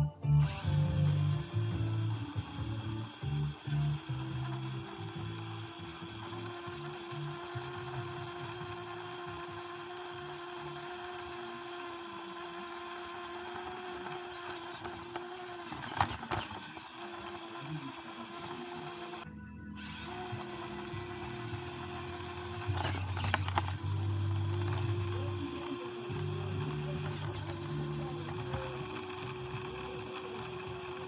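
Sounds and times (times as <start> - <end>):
rc car motor whine: 0.4 - 31.0.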